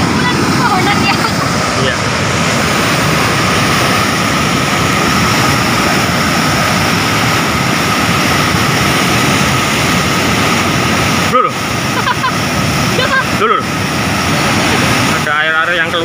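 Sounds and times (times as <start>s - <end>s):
floodwater rushing over weir: 0.0s - 16.0s.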